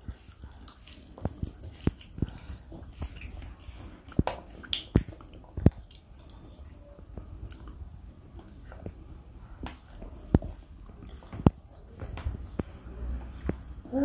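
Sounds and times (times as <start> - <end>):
toddler chewing food: 0.0 - 14.0.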